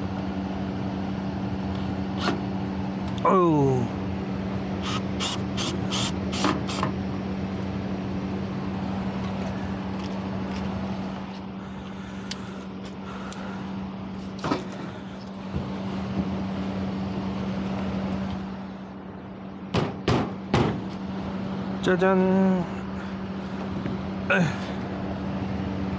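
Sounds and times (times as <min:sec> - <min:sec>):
low machine hum: 0:00.0 - 0:25.9.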